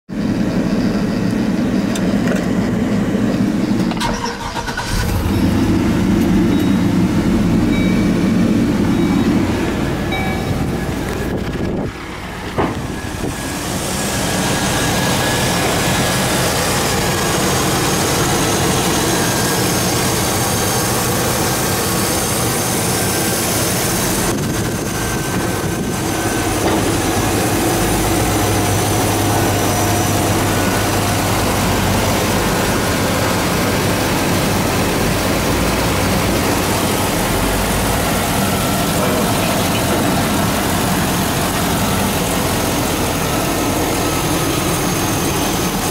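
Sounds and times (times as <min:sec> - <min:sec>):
truck engine idling: 0:00.1 - 0:45.9.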